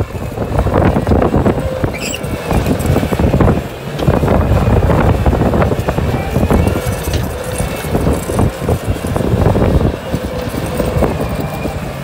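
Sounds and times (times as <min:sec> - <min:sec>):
diesel engine under load: 0:00.0 - 0:12.0
bucket and tracks clattering: 0:00.7 - 0:12.0.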